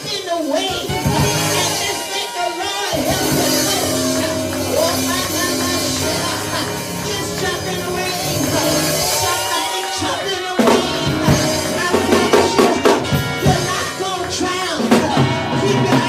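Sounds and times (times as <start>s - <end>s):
drums and full band: 0.0s - 16.0s
held chords: 0.7s - 16.0s.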